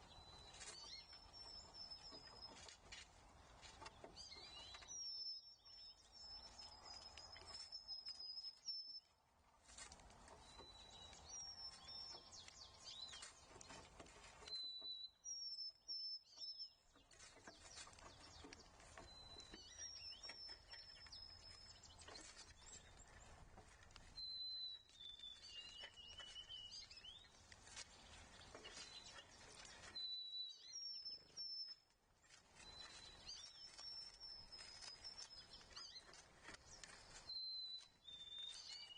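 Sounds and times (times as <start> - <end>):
songbird whistling song: 0.0 - 3.0, 3.6 - 9.2, 10.4 - 23.2, 24.1 - 31.9, 32.6 - 38.9
faint outdoor background noise: 0.0 - 38.9.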